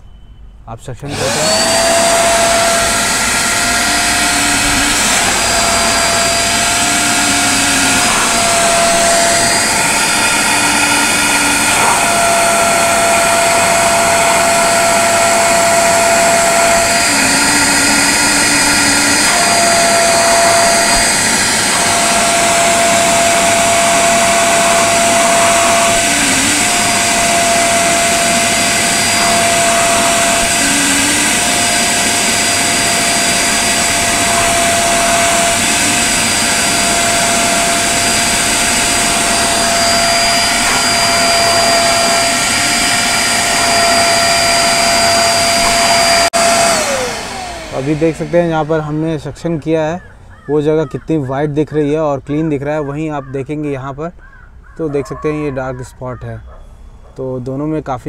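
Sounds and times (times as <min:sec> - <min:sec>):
vacuum cleaner running with whine: 0:01.1 - 0:49.6.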